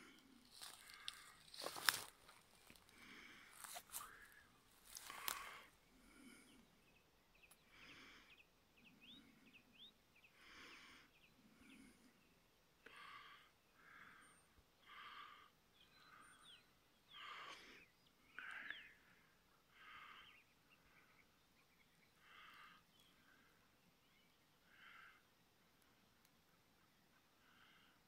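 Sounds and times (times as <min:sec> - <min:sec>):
faint breathing: 0:00.0 - 0:26.1, 0:27.1 - 0:28.0
small birds chirping: 0:00.0 - 0:28.0.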